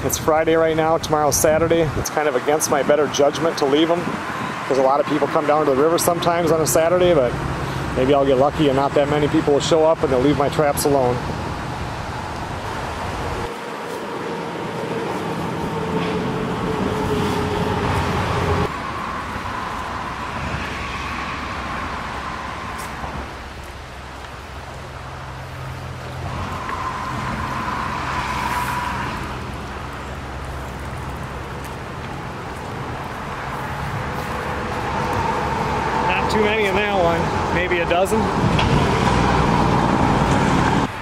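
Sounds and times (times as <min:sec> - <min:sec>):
traffic hum: 0:00.0 - 0:41.0.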